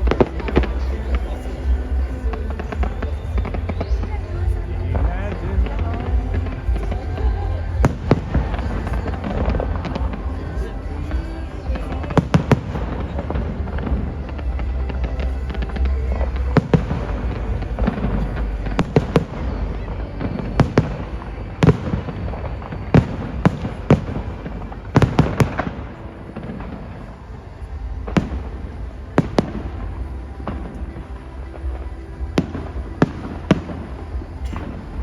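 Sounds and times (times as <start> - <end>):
low rumble: 0.0 - 35.0.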